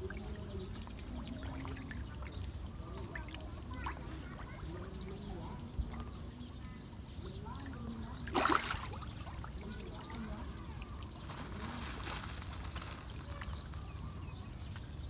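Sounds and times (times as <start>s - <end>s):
fish splashing in pond water: 0.0s - 15.0s.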